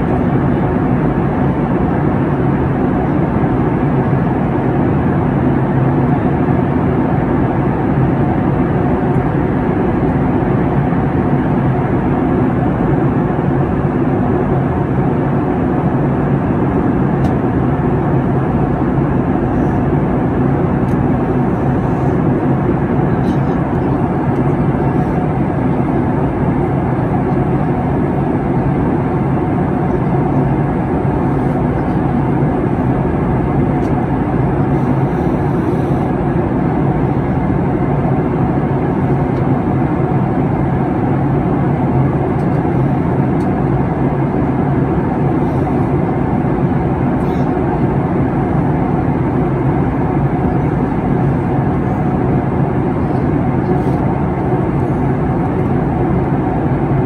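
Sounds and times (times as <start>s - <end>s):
airliner cabin noise: 0.0s - 57.0s.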